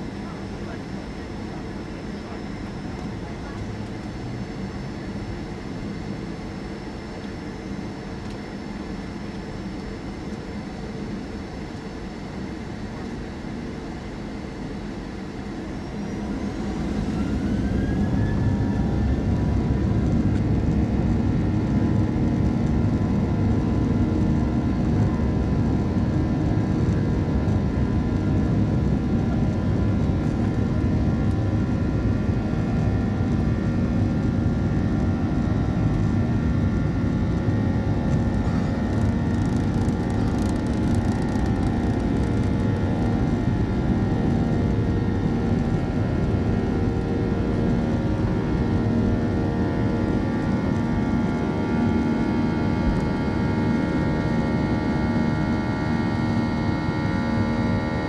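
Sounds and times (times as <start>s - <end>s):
jet engines roaring at takeoff: 0.0s - 58.0s.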